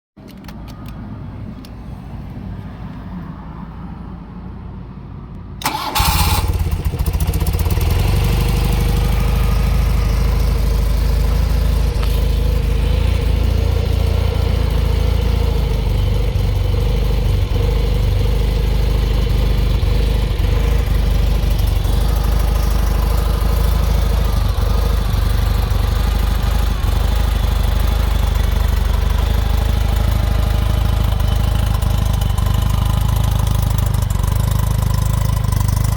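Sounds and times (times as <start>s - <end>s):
motorcycle engine starting and idling: 5.6s - 35.9s.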